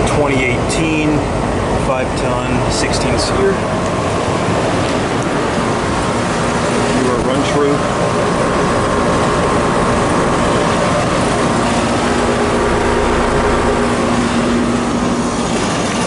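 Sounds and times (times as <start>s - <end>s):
air conditioner units running: 0.0s - 16.0s.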